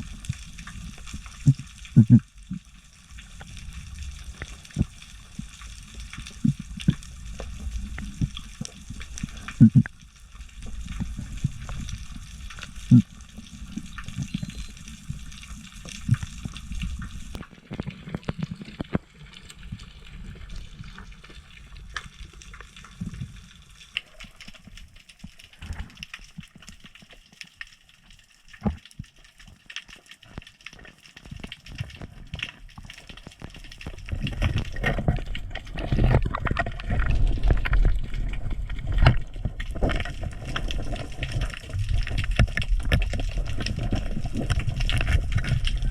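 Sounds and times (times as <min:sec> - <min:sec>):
low churning of water: 0:00.0 - 0:45.9
sharp clicks and crackles: 0:00.0 - 0:45.9
water moving underwater: 0:00.0 - 0:45.9.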